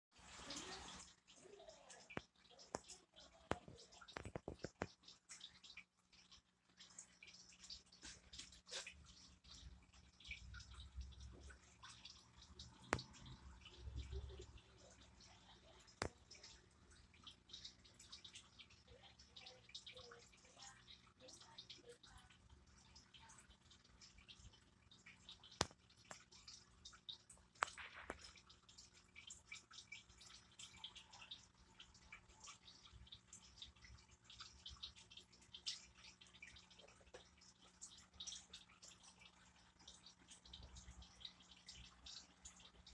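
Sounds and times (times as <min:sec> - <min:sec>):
aquarium water trickling: 0:00.1 - 0:42.9.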